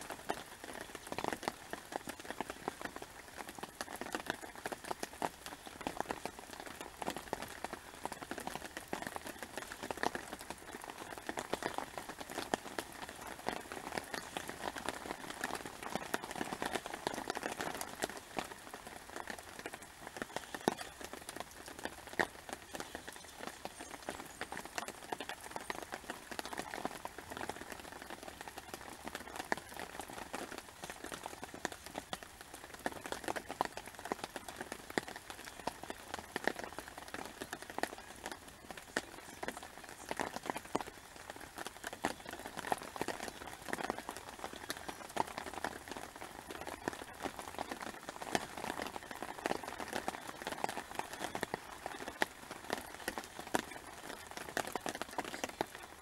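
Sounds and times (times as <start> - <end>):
raindrops striking near microphone: 0.0 - 56.0
steady rain falling: 0.0 - 56.0.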